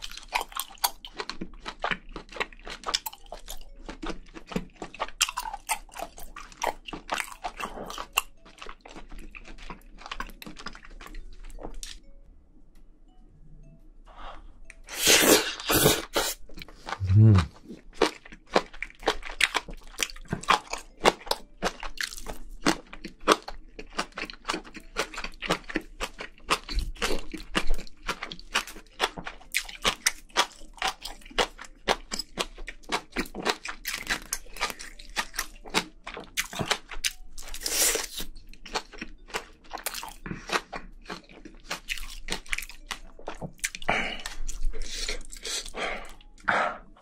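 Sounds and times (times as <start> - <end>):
person chewing food: 0.0 - 12.1, 14.1 - 47.0.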